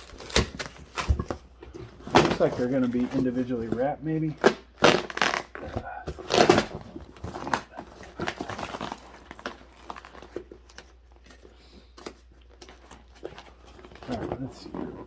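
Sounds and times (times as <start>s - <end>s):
cardboard box packing crinkling: 0.0s - 15.0s.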